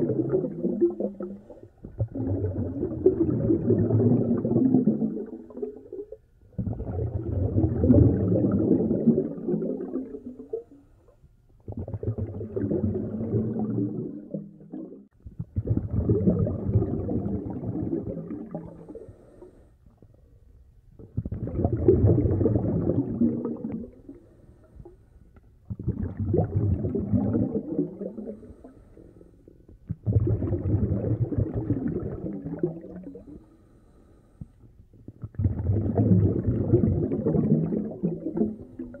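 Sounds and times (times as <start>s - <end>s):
diver exhaling bubbles through regulator: 0.0s - 10.8s, 11.6s - 19.5s, 21.0s - 25.0s, 25.7s - 29.1s, 29.8s - 33.4s, 35.0s - 39.0s.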